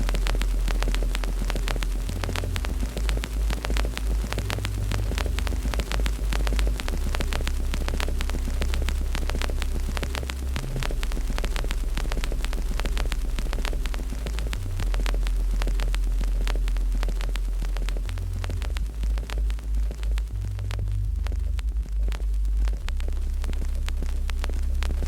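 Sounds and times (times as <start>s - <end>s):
loud low hum: 0.0s - 25.0s
wood fire crackling: 0.0s - 25.0s.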